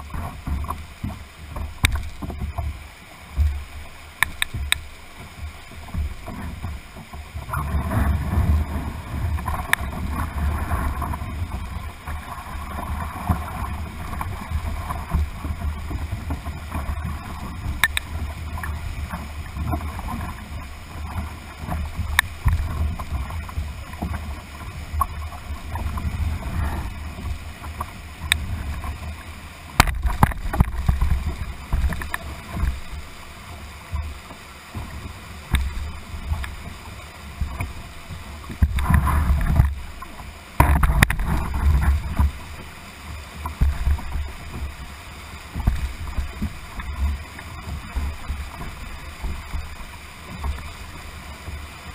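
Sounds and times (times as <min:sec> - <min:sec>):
rapids splashing against canoe: 0:00.0 - 0:51.9
water buffeting microphone: 0:00.0 - 0:51.9.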